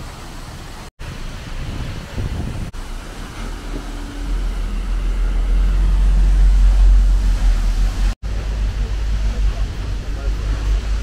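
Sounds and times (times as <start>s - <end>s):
falling water and spray: 0.0s - 11.0s
wind buffeting microphone: 1.0s - 11.0s.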